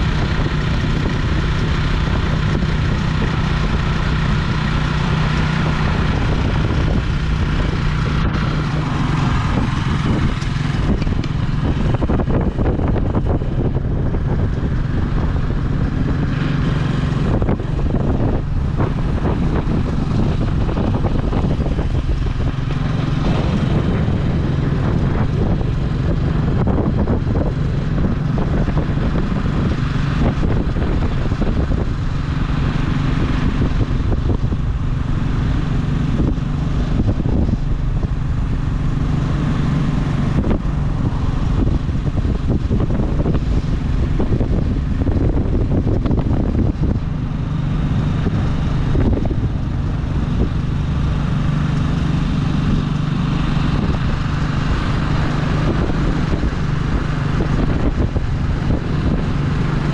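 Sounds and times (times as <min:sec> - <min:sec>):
road noise: 0:00.0 - 0:59.9
vehicle engine running: 0:00.0 - 0:59.9
wind noise: 0:00.0 - 0:59.9.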